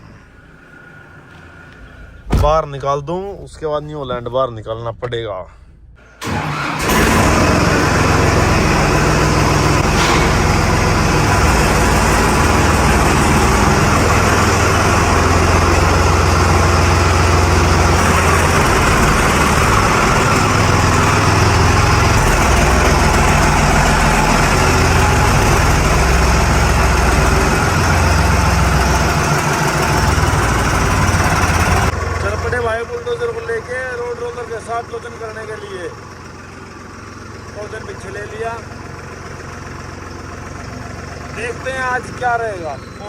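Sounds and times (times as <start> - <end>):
tractor engine rumbling: 0.0 - 43.0.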